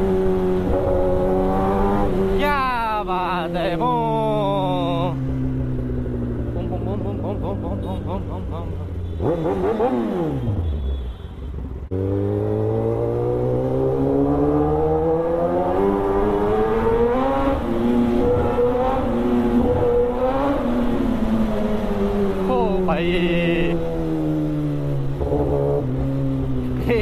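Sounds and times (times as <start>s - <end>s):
motorcycle engine accelerating: 0.0s - 2.7s, 3.5s - 10.6s, 11.9s - 27.0s.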